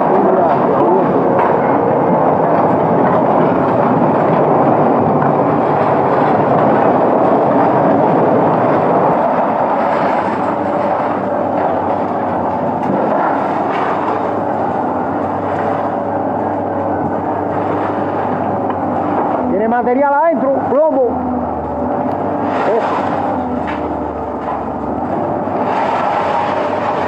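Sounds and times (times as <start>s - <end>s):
heavy machinery rumbling: 0.0s - 27.0s.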